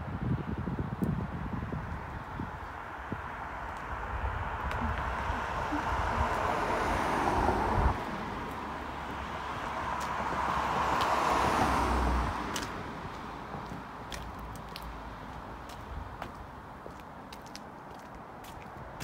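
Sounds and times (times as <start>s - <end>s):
cars passing: 1.4s - 19.0s.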